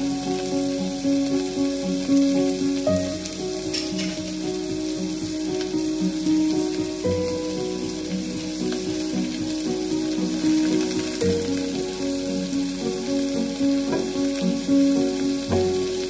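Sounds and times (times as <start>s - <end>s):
food sizzling in oil: 0.0s - 16.0s
soft background music: 0.0s - 16.0s.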